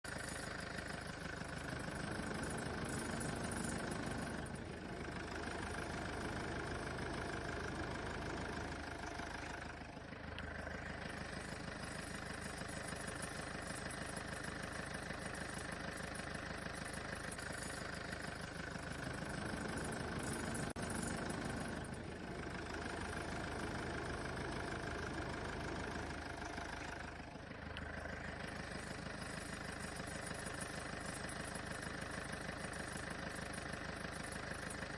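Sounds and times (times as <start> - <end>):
truck engine idling with knock: 0.1 - 34.9.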